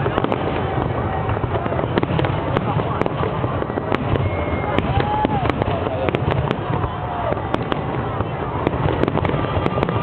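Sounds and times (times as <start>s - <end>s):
fireworks cracks and bangs: 0.0s - 10.0s
rumble of firework bursts: 0.0s - 10.0s.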